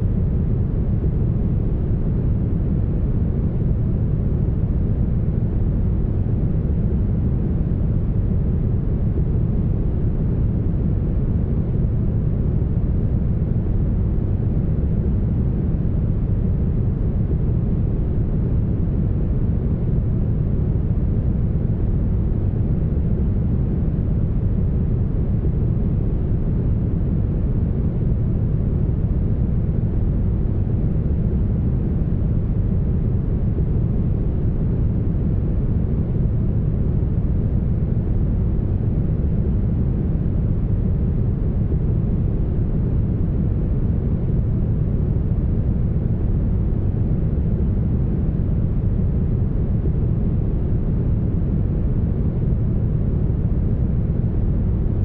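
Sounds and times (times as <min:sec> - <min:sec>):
brown noise rumble: 0:00.0 - 0:55.0.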